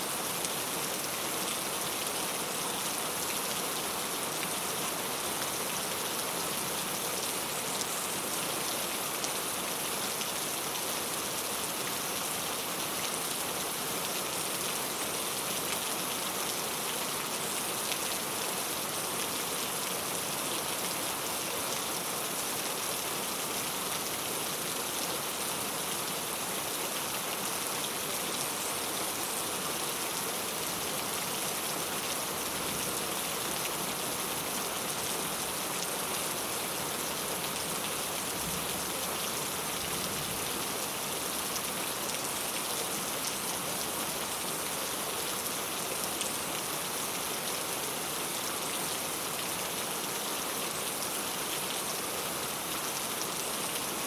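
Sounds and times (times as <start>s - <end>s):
rain falling on a tile roof: 0.0s - 54.0s.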